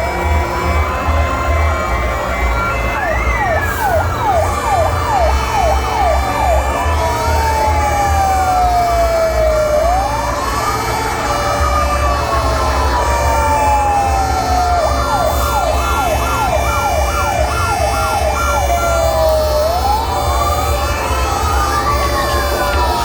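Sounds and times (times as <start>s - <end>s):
fire engine sirens wailing: 0.0s - 23.0s.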